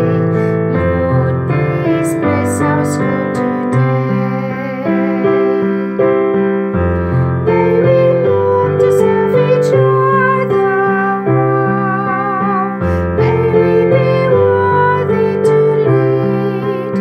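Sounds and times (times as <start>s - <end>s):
woman singing: 0.0s - 6.7s, 7.3s - 17.0s
piano chords: 0.0s - 17.0s.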